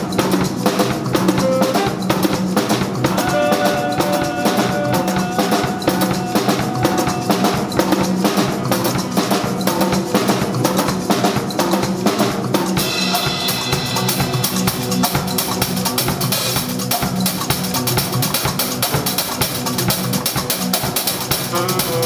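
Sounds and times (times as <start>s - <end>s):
drum kit playing fast groove: 0.0s - 22.0s.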